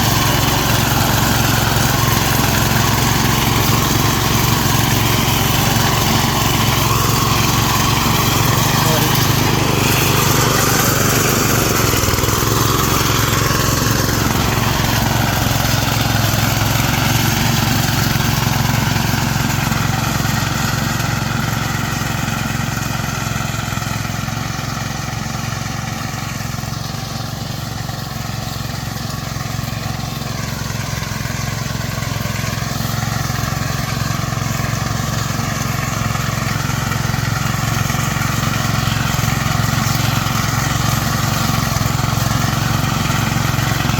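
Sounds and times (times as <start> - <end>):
reaper engine running: 0.0 - 43.9.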